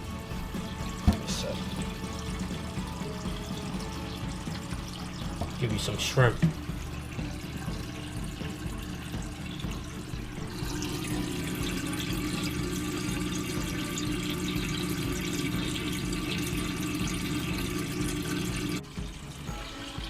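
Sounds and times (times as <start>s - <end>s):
low steady hum: 0.0s - 19.7s
water trickling: 0.0s - 20.0s.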